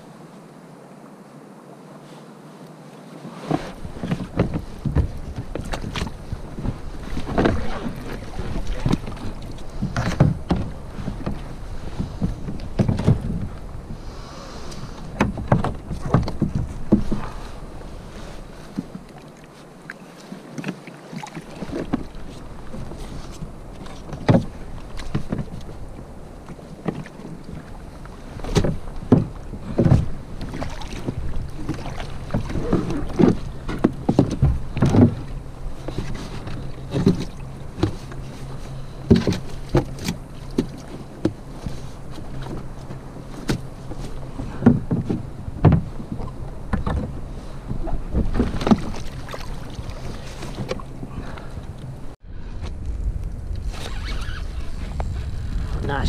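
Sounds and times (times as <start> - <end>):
water slapping kayak hull: 2.8 - 56.0
paddle knocks and splashes: 3.3 - 14.1, 14.7 - 56.0.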